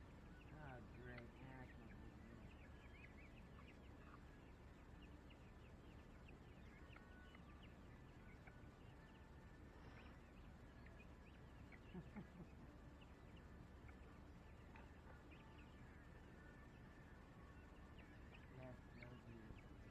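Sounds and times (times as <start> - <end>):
birds chirping and peeping: 0.0 - 19.9
low steady hum: 0.0 - 19.9.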